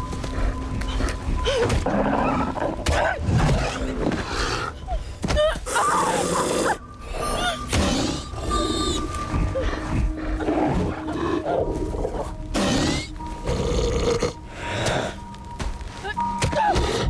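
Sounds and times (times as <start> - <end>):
tense music score: 0.0 - 17.0.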